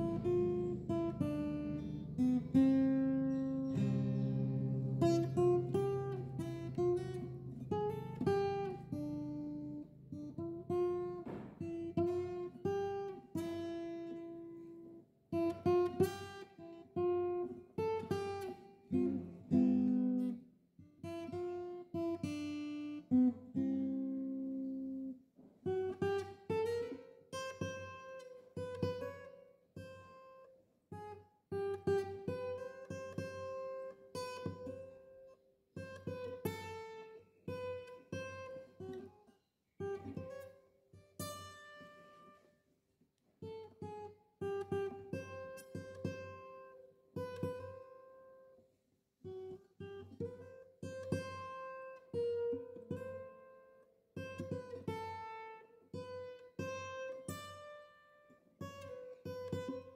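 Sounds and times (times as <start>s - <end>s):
acoustic guitar melody: 0.0s - 42.7s, 43.4s - 59.9s.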